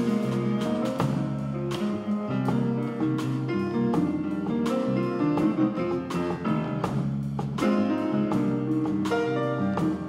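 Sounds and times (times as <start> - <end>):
small jazz ensemble playing: 0.0 - 10.0.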